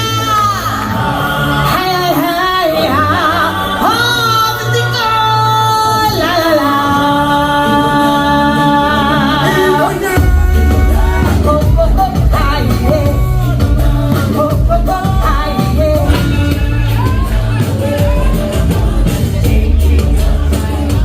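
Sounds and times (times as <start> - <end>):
backing music: 0.0 - 21.0
person singing: 0.0 - 21.0.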